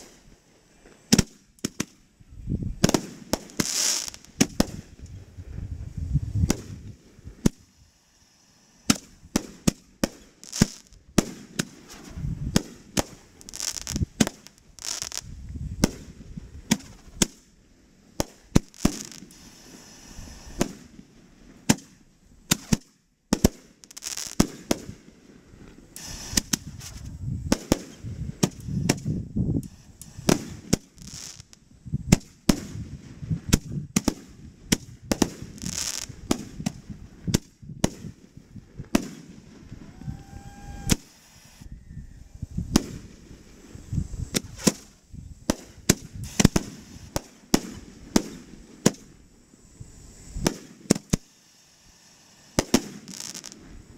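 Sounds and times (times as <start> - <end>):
fireworks banging: 2.8 - 5.6, 6.4 - 7.8, 8.8 - 17.5, 18.2 - 39.9, 42.6 - 49.2, 50.4 - 53.8.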